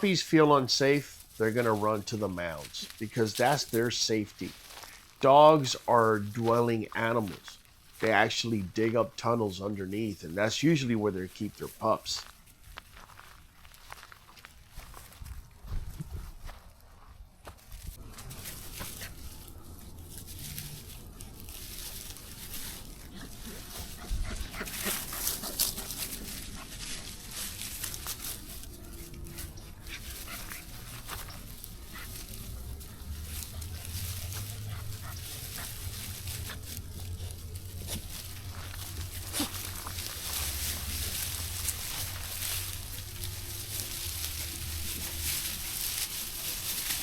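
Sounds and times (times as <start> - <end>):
dogs rustling: 0.0 - 47.0
footsteps in dry leaves: 0.0 - 47.0.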